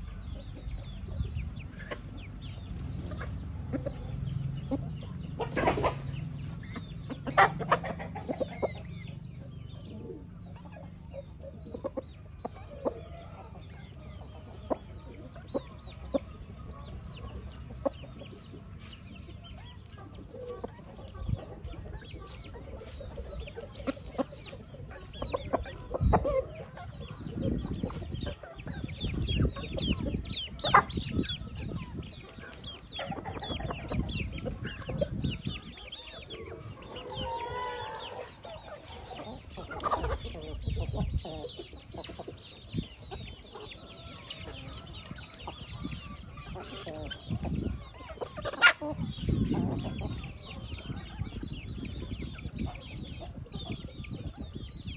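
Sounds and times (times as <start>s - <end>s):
rooster clucking: 0.0s - 54.6s.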